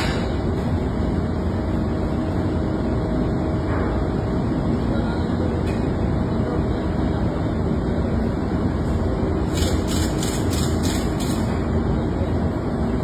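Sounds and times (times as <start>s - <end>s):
engine room machinery rumble: 0.0s - 13.0s.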